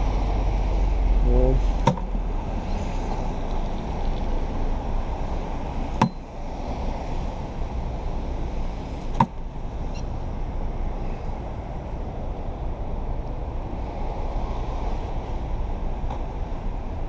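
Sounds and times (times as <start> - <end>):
cars passing on wet road: 0.0 - 17.0.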